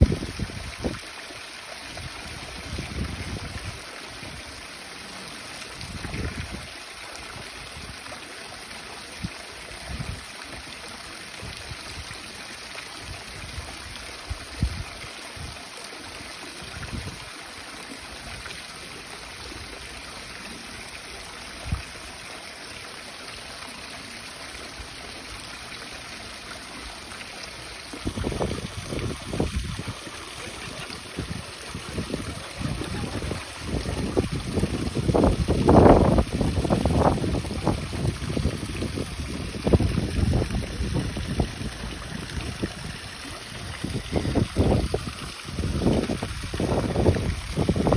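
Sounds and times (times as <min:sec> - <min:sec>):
running water hissing: 0:00.0 - 0:47.9.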